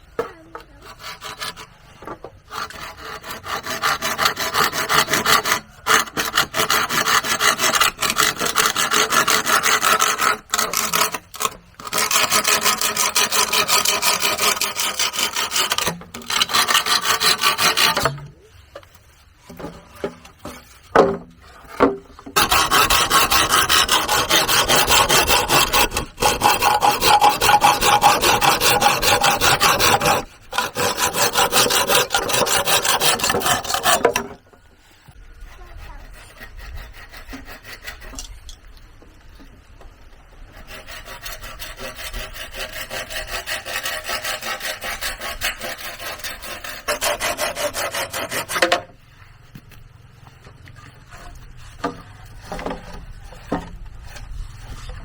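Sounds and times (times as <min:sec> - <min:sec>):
hand saw cutting wood: 0:00.3 - 0:18.5, 0:19.5 - 0:34.4, 0:35.4 - 0:38.6, 0:40.4 - 0:49.0, 0:51.0 - 0:55.0.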